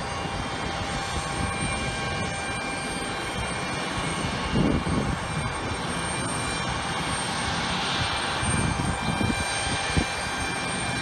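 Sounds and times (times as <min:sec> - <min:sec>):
distant jet engines: 0:00.0 - 0:11.0.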